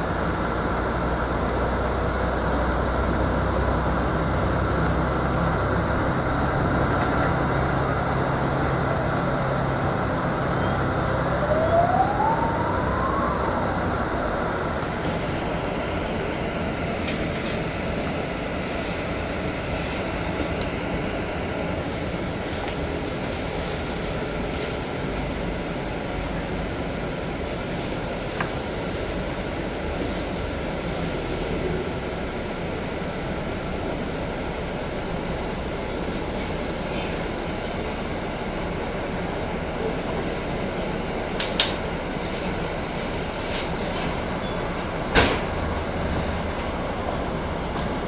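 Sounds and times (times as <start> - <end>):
bus running noise: 0.0 - 48.0.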